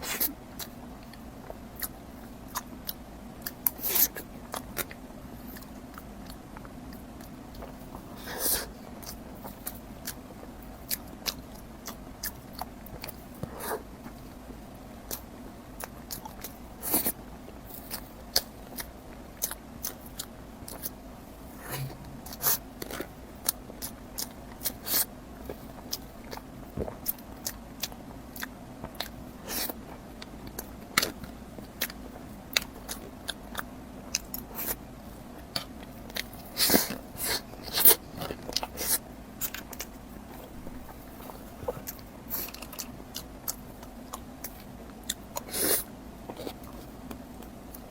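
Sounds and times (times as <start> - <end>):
person chewing food: 0.0 - 34.8, 35.4 - 47.9
faint steady hum: 0.0 - 47.9.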